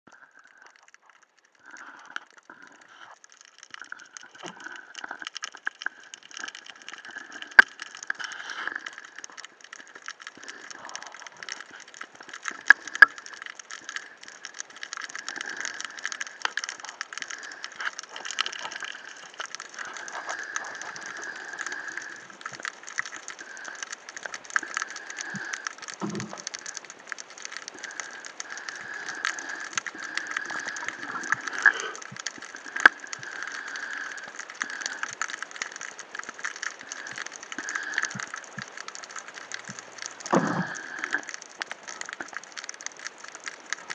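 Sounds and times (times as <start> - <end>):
underwater crackle of tiny clicks: 0.1 - 43.9.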